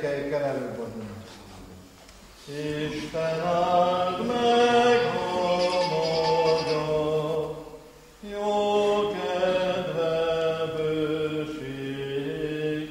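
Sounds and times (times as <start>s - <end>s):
congregation singing a hymn: 2.4s - 12.9s.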